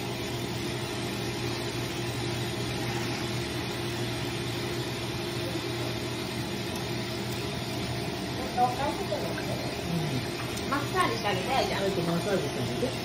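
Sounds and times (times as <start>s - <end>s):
pump humming: 0.0s - 13.0s.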